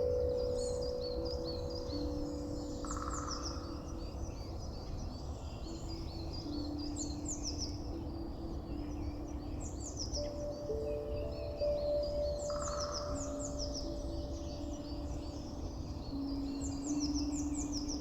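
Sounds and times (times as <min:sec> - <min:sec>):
birds chirping: 0:00.0 - 0:18.0
soft held music notes: 0:00.0 - 0:18.0.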